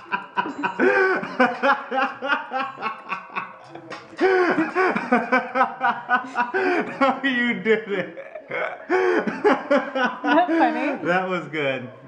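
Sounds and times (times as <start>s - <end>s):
man laughing hard: 0.0s - 3.4s, 4.2s - 10.7s.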